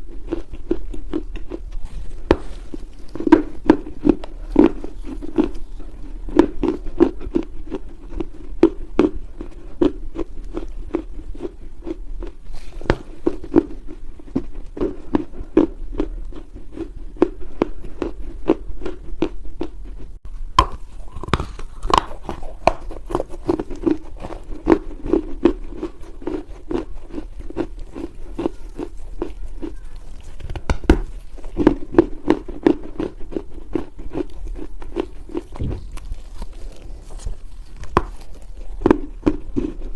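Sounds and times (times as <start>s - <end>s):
crunching clay being chewed: 0.0s - 39.9s.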